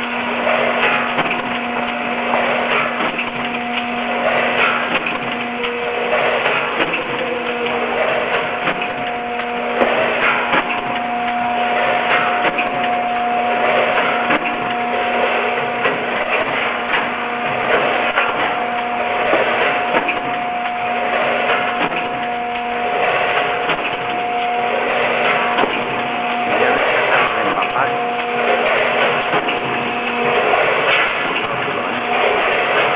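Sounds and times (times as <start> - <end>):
machine clatter: 0.0 - 32.9
machine hum of several tones: 0.0 - 32.9.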